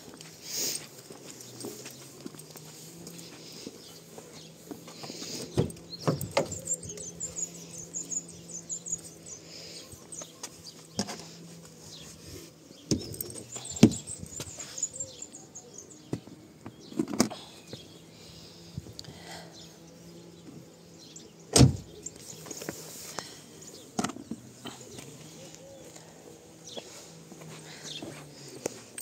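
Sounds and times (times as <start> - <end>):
small birds twittering: 0.1 - 29.0.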